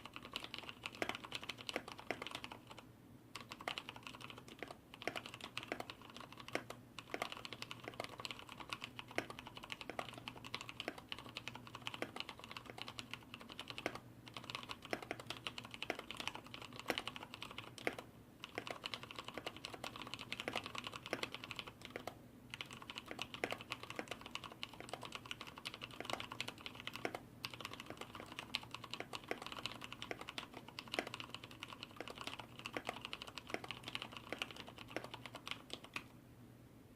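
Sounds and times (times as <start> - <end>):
fast typing on mechanical keyboard: 0.0 - 36.1.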